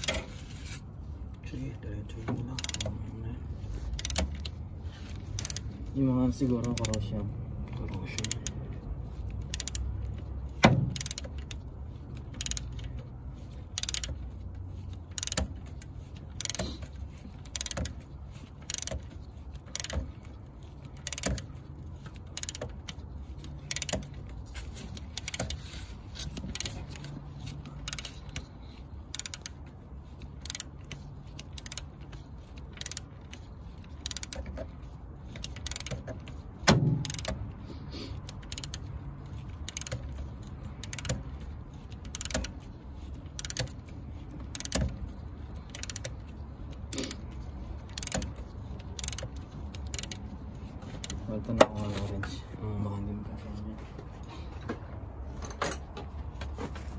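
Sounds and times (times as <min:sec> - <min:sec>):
hand ratchet clicking: 0:02.4 - 0:03.1, 0:03.7 - 0:51.5.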